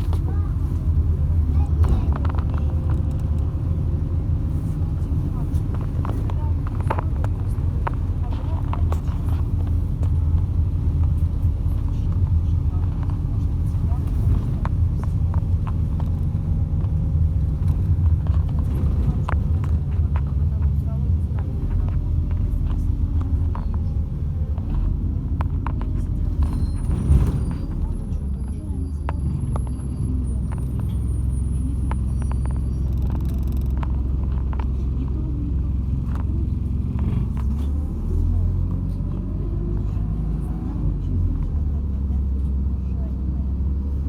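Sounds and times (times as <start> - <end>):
body rattles and clicks: 0.0 - 30.9, 31.8 - 37.9
bus engine and road rumble: 0.0 - 44.0.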